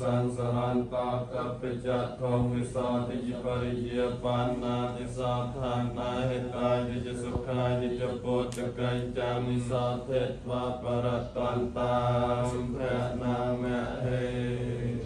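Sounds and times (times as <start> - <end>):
monks chanting in unison: 0.0 - 15.0.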